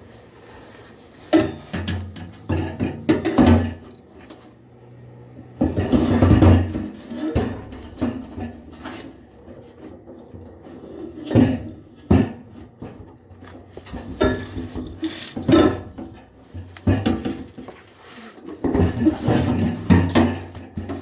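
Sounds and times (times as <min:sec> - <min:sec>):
tools knocking and clunking: 0:01.2 - 0:04.5, 0:05.4 - 0:17.9, 0:18.5 - 0:21.0.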